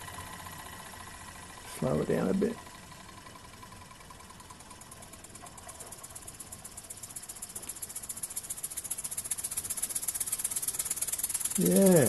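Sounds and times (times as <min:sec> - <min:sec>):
steam engine chuffing: 0:00.0 - 0:12.0.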